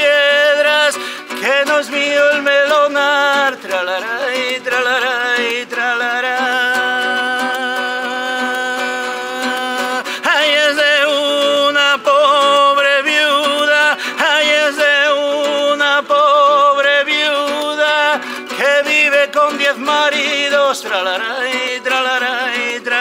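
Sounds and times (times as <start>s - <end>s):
man singing: 0.0s - 23.0s
strummed nylon-string guitar: 0.0s - 23.0s.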